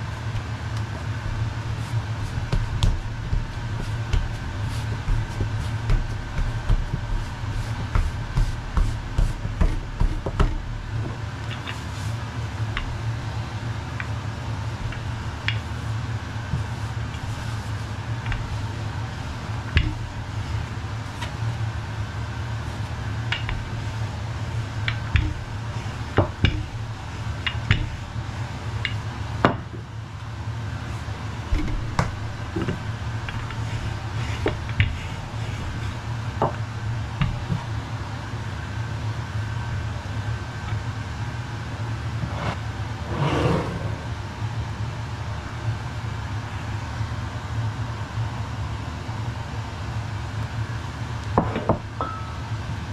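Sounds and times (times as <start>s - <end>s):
rolling pin rolling pastry: 0.0s - 41.2s, 41.9s - 44.2s
steady low hum: 0.0s - 52.9s.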